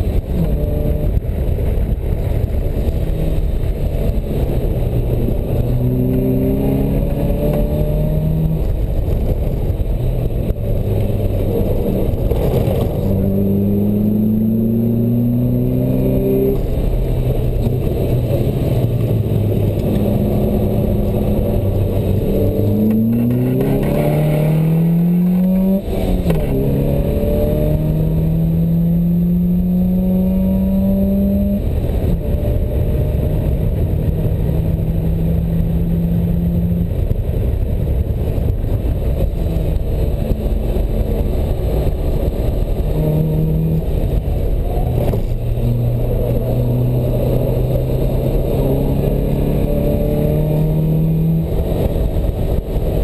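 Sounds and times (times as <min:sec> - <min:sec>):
sports car engine accelerating: 0:00.0 - 0:53.0
wind rush: 0:00.0 - 0:53.0.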